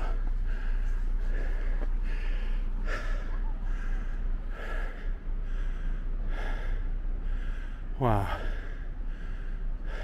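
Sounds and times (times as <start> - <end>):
man breathing hard and fast: 0.0 - 10.0.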